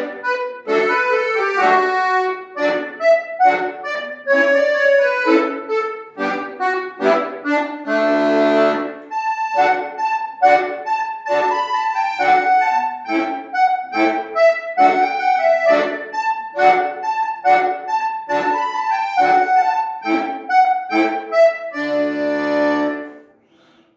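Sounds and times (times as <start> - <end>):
accordion playing dance tune: 0.0 - 23.3.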